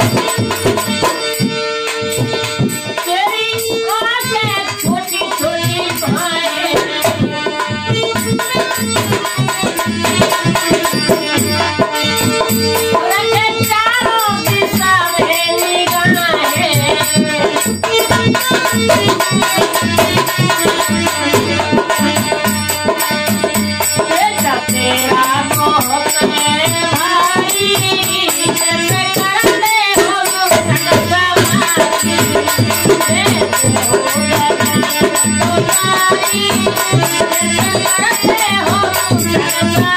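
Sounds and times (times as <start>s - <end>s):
dholak drum beat: 0.0s - 39.9s
harmonium: 0.0s - 39.9s.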